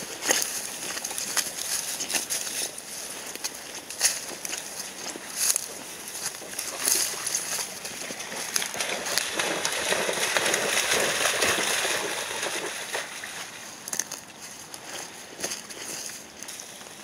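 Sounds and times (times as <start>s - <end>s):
dogs splashing through water: 0.0s - 16.6s.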